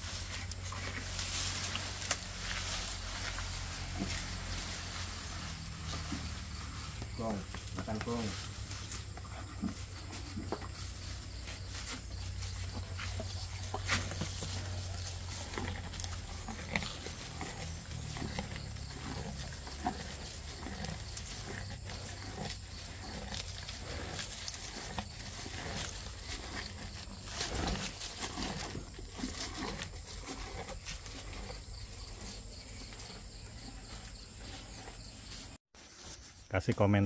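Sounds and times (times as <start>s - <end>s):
steady low hum: 0.0s - 35.4s
bull chewing and tearing grass: 0.0s - 36.4s.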